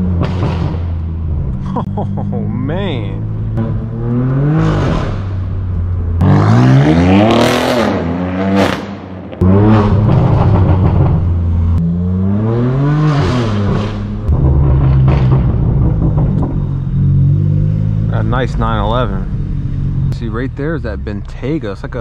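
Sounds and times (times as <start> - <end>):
exhaust crack: 0.0 - 11.9, 13.1 - 22.0
car engine revving: 0.0 - 22.0.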